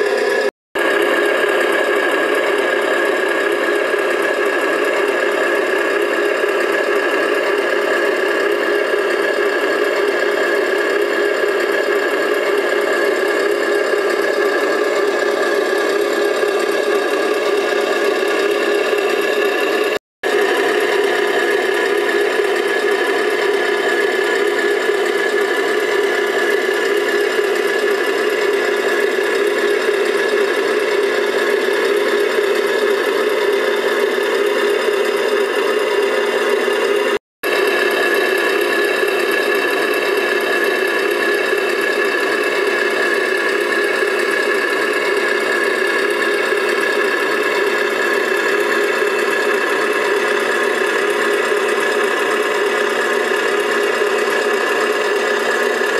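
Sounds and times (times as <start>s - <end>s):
electric motor whirring: 0.0s - 55.9s.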